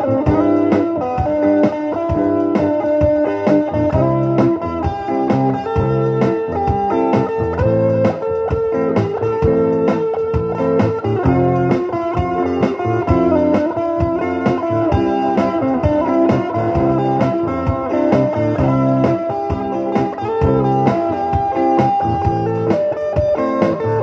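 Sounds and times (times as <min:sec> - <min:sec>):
blues-rock band music: 0:00.0 - 0:24.0
electric guitar playing along: 0:00.0 - 0:24.0.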